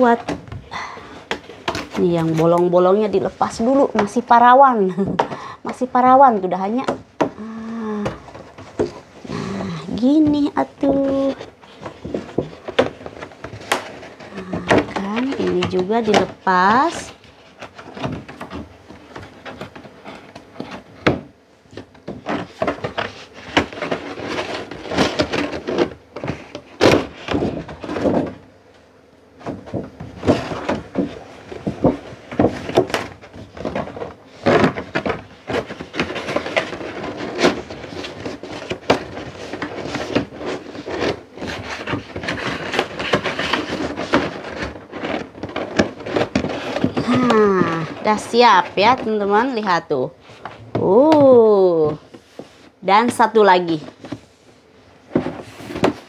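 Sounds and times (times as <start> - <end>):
cardboard and paper crinkling: 0.0 - 56.0.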